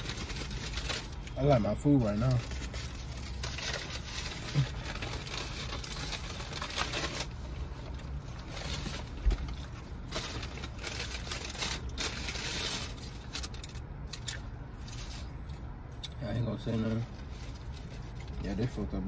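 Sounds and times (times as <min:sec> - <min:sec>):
paper wrappers rustling: 0:00.0 - 0:15.6.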